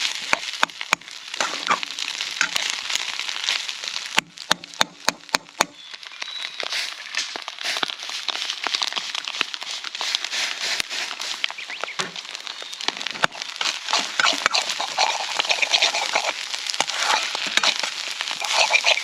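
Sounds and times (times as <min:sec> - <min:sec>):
food sizzling in a wok: 0:00.0 - 0:19.0.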